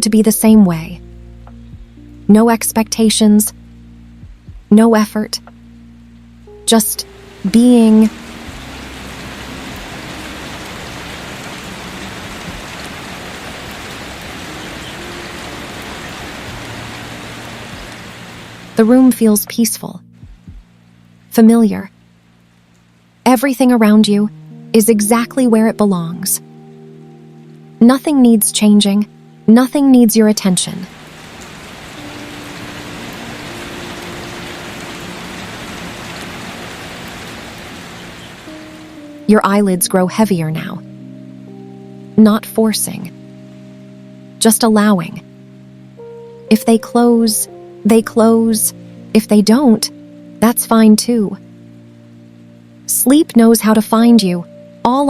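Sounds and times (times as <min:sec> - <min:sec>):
soft background music notes: 0:00.0 - 0:55.0
steady rain falling: 0:00.3 - 0:55.0.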